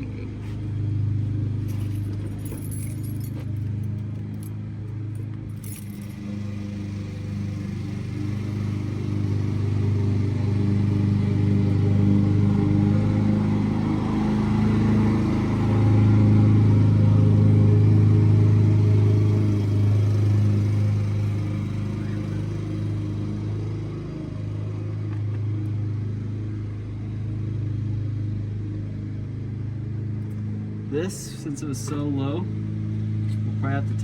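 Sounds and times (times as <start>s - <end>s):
engine humming steadily: 0.0s - 34.0s.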